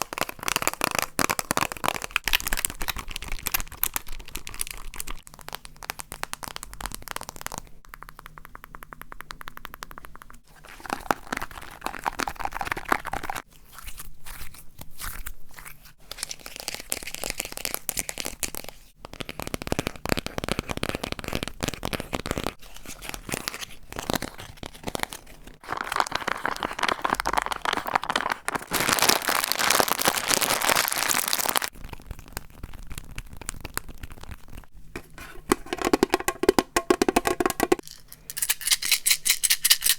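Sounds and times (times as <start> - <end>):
objects crunching and crinkling: 0.0 - 7.7, 10.5 - 38.5.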